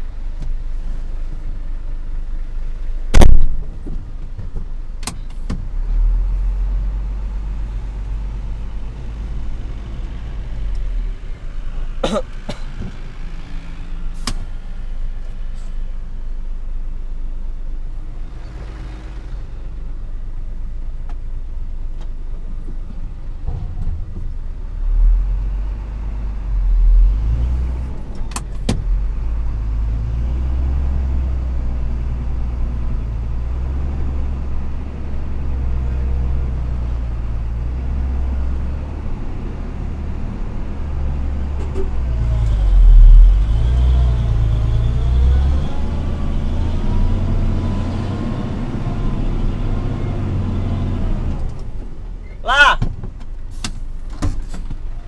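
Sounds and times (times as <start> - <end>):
truck diesel engine rumbling: 0.0 - 55.0.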